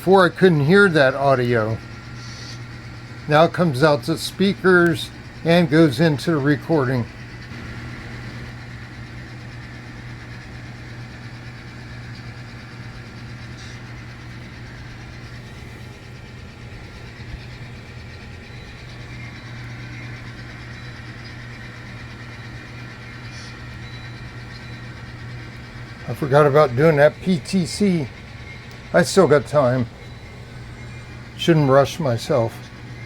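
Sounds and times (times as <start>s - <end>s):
diesel engine idling through speakers: 0.0s - 33.0s.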